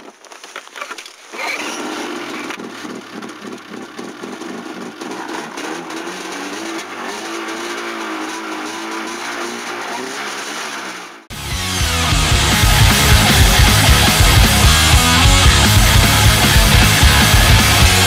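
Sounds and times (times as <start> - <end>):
snowmobile engine running: 1.4 - 18.0.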